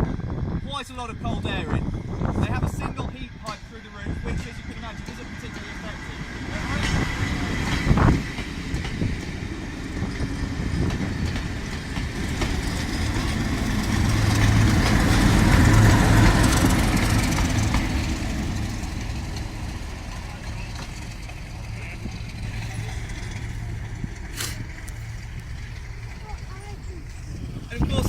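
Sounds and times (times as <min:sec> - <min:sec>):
train wheels clicking over rail joints: 0:02.5 - 0:28.0.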